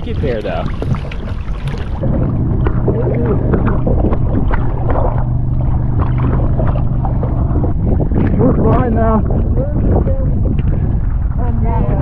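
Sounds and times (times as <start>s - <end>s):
low steady hum: 0.0s - 12.0s
water sloshing around a boat: 0.0s - 12.0s.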